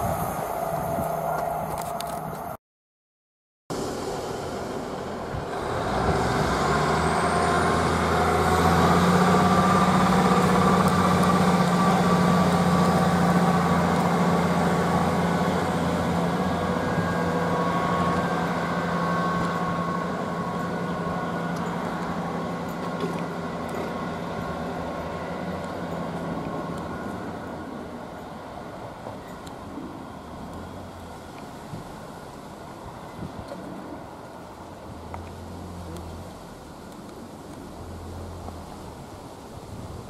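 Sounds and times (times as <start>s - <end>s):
diesel train engine droning: 0.0s - 2.6s, 3.7s - 40.0s.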